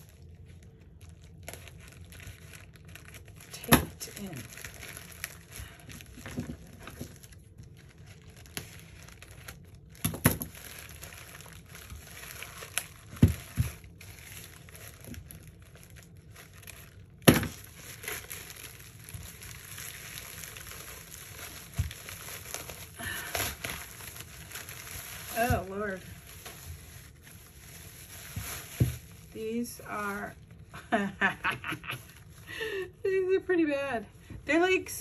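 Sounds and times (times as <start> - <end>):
plastic and tape crinkling: 0.0 - 33.6.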